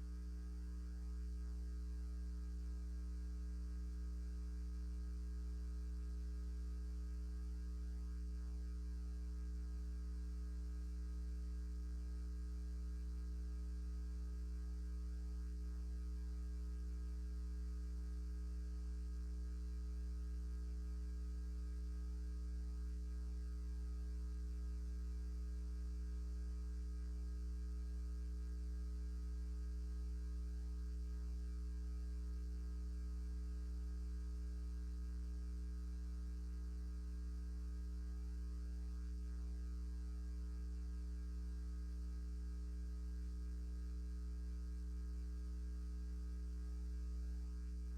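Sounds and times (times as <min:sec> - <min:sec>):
electrical mains hum: 0:00.0 - 0:47.9.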